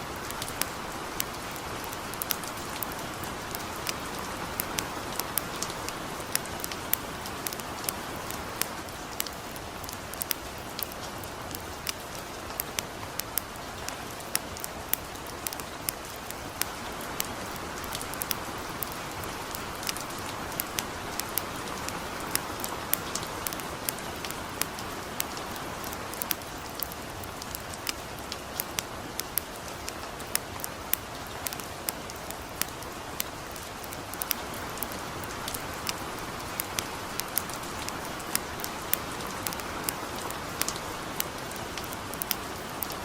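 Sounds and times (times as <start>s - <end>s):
campfire crackling: 0.0s - 43.0s
light rain falling: 0.0s - 43.0s.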